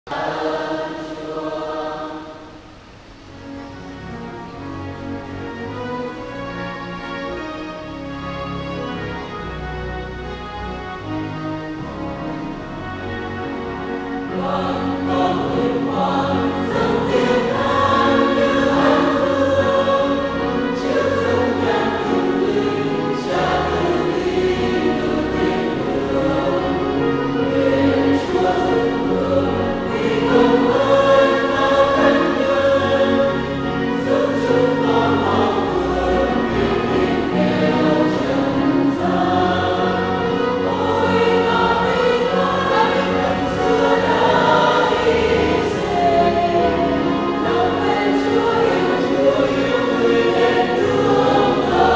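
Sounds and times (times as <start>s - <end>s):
mixed choir singing a hymn: 0.0s - 7.9s, 8.5s - 51.9s.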